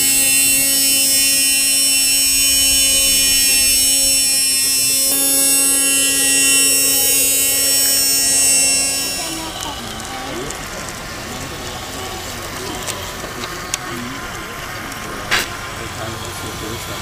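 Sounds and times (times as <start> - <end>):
electric motor and gear whine: 0.0 - 17.0.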